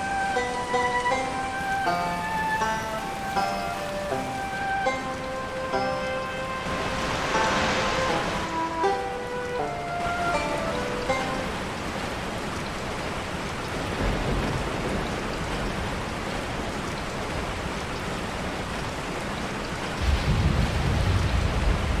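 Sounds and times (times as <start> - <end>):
steady rain hissing: 0.0 - 22.0.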